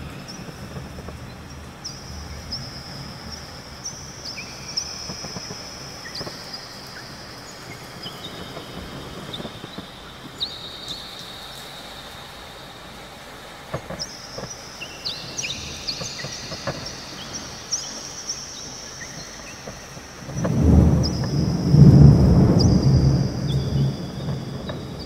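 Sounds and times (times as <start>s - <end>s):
insects trilling: 0.0s - 25.0s
low hiss: 0.0s - 25.0s.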